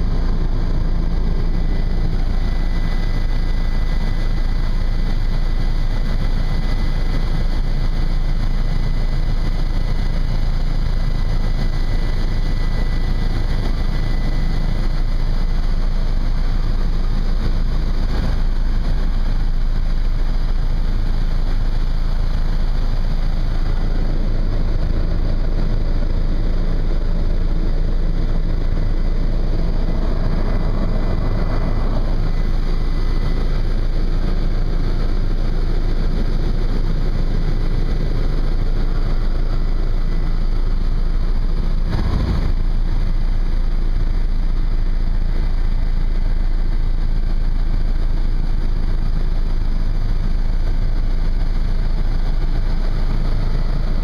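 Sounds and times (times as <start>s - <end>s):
faint high whine: 0.0s - 54.0s
helicopter engine and rotor drone: 0.0s - 54.0s.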